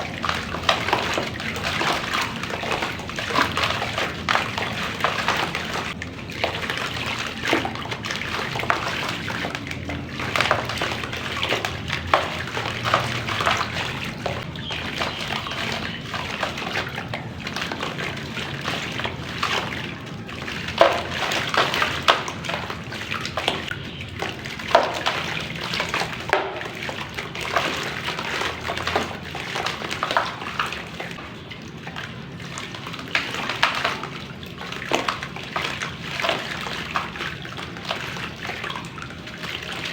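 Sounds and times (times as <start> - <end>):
clay fizzing and cracking in water: 0.0 - 39.9
water sloshing: 0.0 - 39.9.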